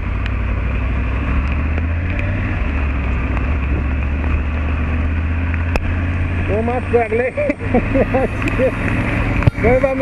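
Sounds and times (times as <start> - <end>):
hiss of wind and wet road: 0.0 - 10.0
motorcycle engine pulling away: 0.0 - 10.0.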